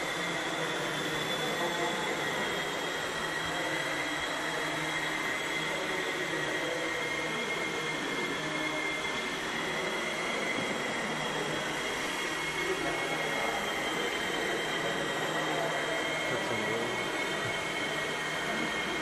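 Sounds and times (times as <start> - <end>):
model airplane motor whining: 0.0 - 19.0.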